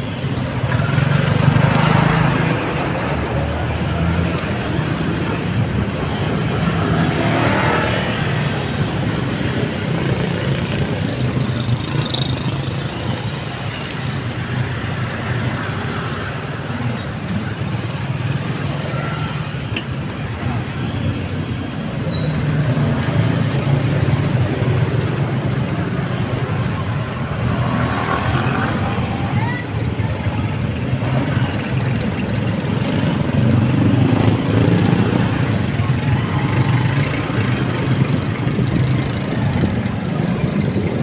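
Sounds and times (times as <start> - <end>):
motorcycle engines droning: 0.0 - 41.0.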